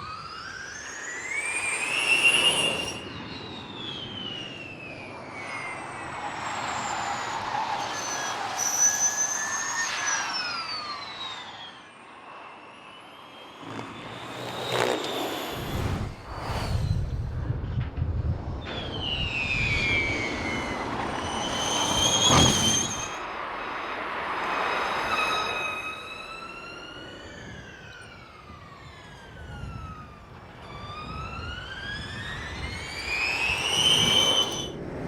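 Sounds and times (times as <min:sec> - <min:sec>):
electric race car whine: 0:00.0 - 0:35.0.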